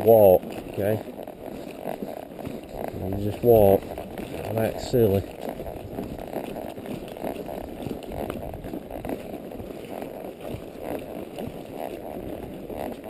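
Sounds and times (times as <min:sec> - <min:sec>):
horse hoofbeats on dirt: 0:00.0 - 0:13.0
rustling: 0:00.0 - 0:13.0.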